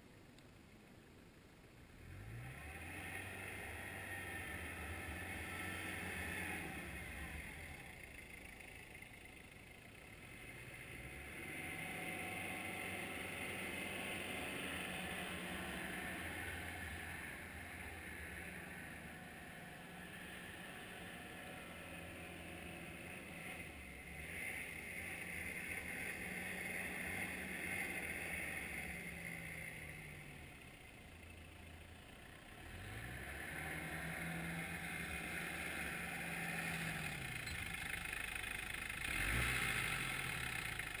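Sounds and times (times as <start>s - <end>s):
diesel engine revving: 2.0s - 41.0s.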